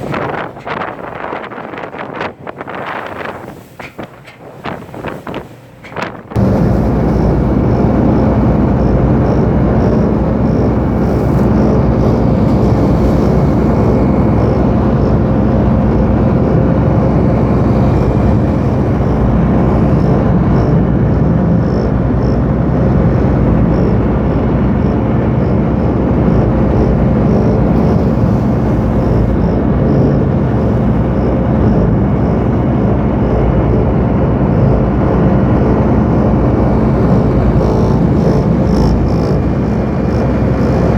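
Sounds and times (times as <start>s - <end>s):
engine drone with low hum: 0.0s - 40.9s.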